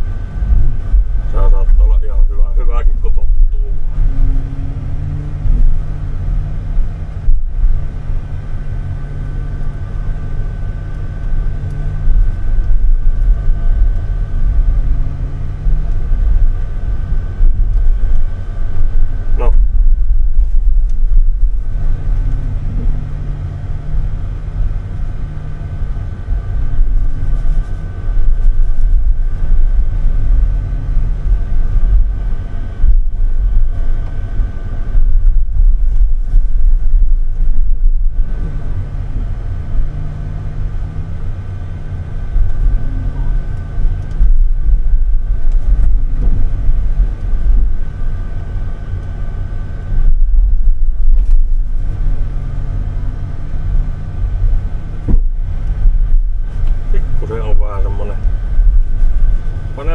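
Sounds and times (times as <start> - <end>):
truck engine running under load: 0.0 - 59.9.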